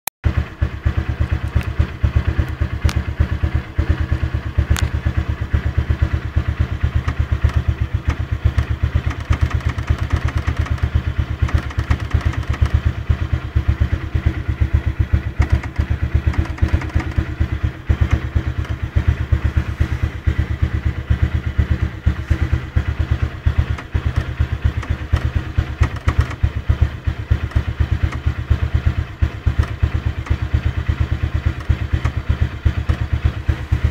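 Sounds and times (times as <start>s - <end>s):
motorcycle engine idling: 0.2s - 33.9s.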